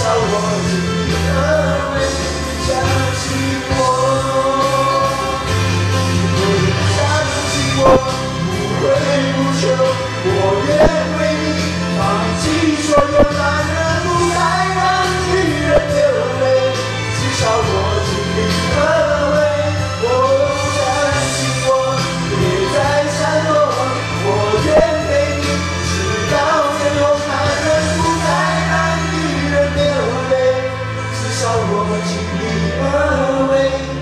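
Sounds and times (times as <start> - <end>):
man singing into a microphone: 0.0 - 34.0
pop ballad backing track: 0.0 - 34.0.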